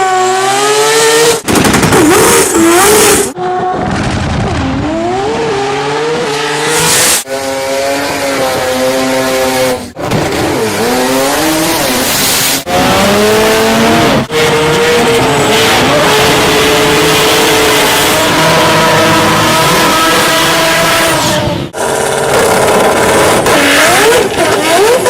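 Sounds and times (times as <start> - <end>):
rotary engine revving hard: 4.8 - 25.0.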